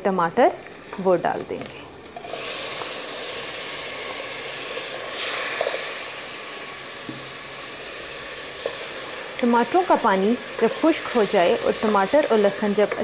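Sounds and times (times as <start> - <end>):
tomatoes sizzling in a pan: 0.0 - 13.0.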